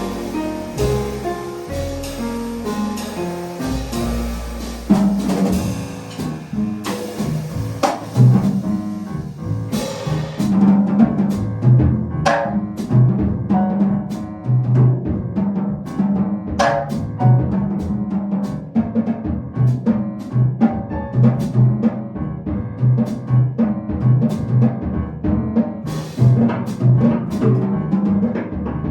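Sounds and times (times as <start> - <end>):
drum kit strokes: 0.0 - 28.9
piano: 0.0 - 28.9.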